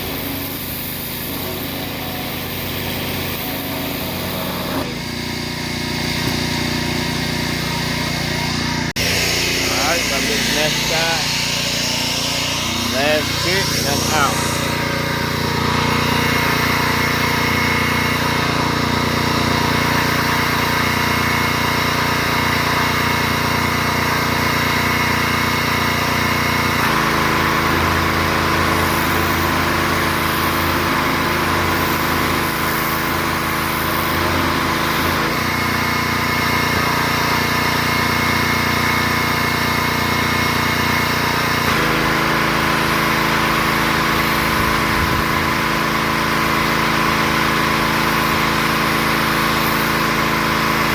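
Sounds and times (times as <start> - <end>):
pressure washer engine running: 0.0 - 50.9.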